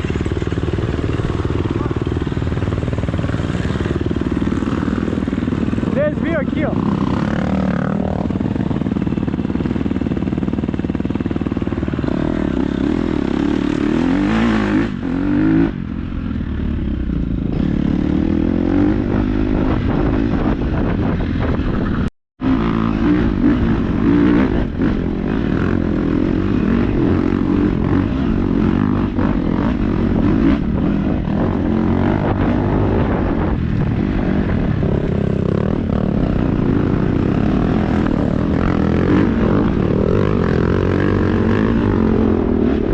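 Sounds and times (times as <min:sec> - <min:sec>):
dirt bike engine revving: 0:00.0 - 0:20.9, 0:22.4 - 0:42.9.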